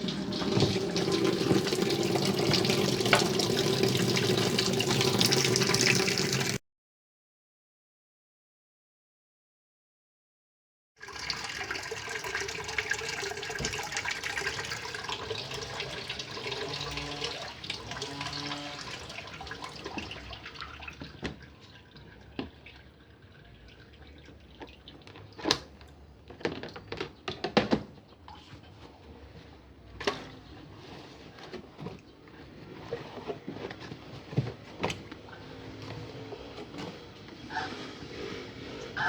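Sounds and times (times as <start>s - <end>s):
water rushing in washing machine: 0.0s - 6.6s, 11.0s - 39.0s.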